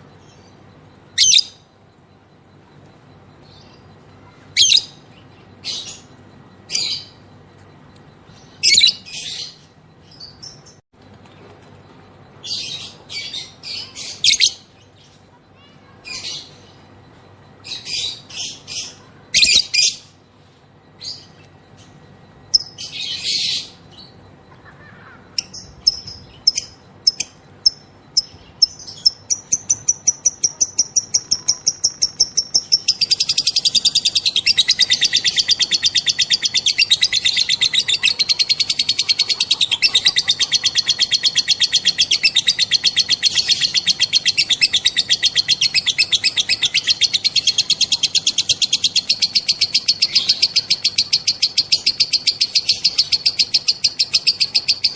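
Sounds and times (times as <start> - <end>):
lovebird chirping and trilling: 0.1 - 1.7, 3.4 - 7.3, 8.2 - 10.8, 12.4 - 16.8, 17.6 - 20.2, 20.9 - 54.9.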